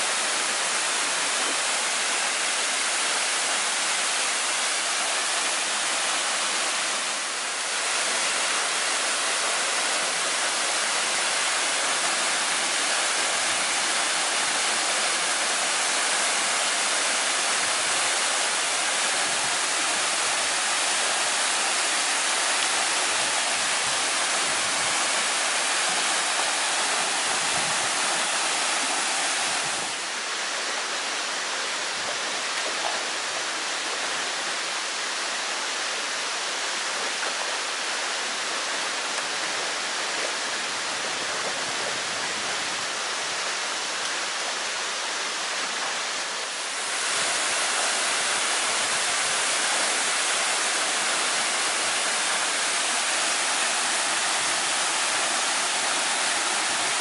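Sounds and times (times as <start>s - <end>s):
shallow stream water rushing: 0.0s - 57.0s
waterfall pouring into a pool: 0.0s - 57.0s.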